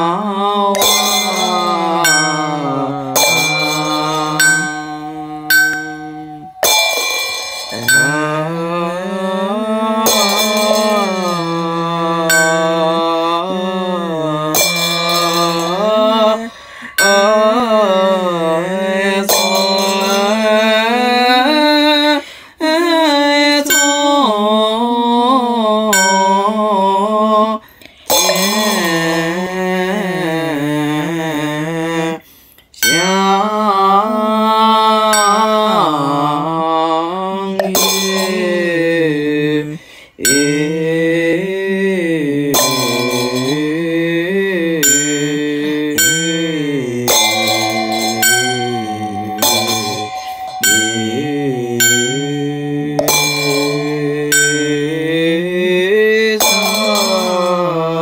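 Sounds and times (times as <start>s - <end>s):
person chanting: 0.0s - 58.0s.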